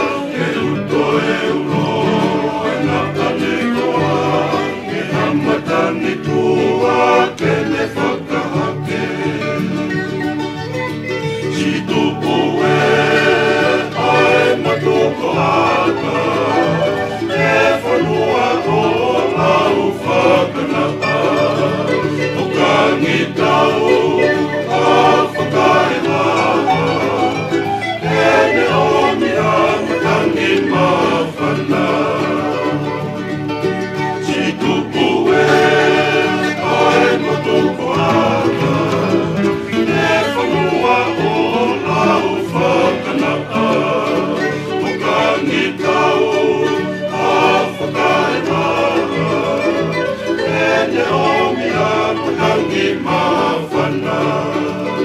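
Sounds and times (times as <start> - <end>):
choir singing: 0.0 - 55.0
strummed string instruments: 0.0 - 55.0.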